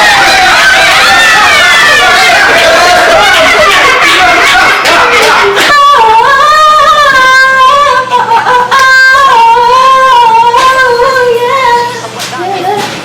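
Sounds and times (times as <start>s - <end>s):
overlapping voices: 0.0s - 13.0s.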